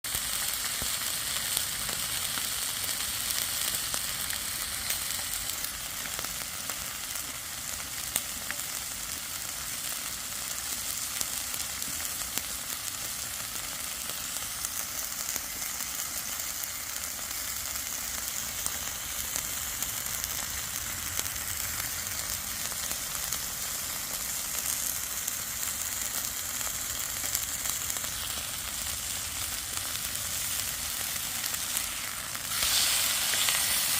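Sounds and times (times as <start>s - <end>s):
steaks sizzling: 0.1s - 33.9s.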